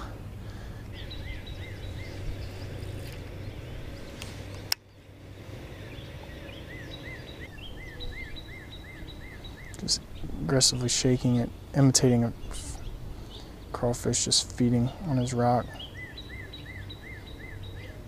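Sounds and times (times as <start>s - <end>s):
bird chirping: 0.0s - 18.0s
low background noise: 0.0s - 18.0s.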